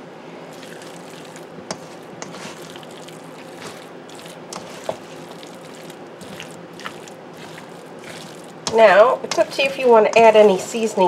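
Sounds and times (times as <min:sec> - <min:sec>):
food squelching mixed by hand: 0:00.5 - 0:11.0.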